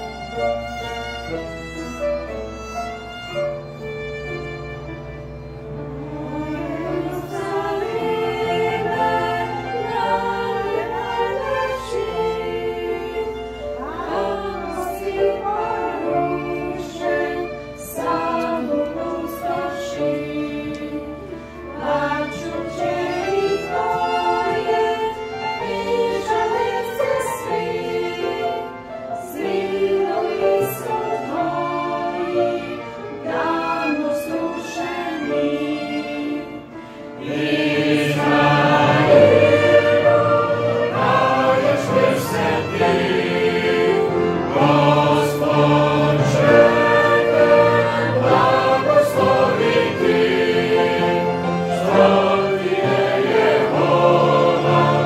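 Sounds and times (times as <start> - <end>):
mixed choir singing: 0.0 - 4.0, 4.7 - 55.0
violin: 0.0 - 55.0.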